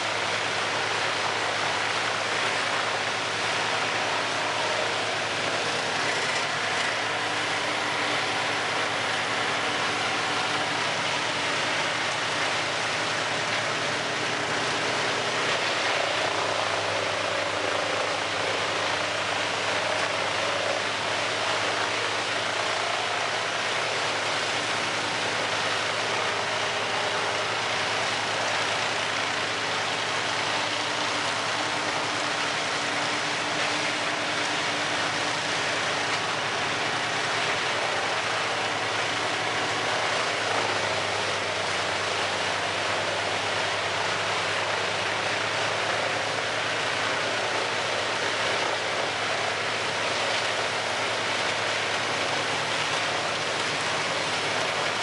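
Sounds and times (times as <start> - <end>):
wood chipper engine hum: 0.0 - 55.0.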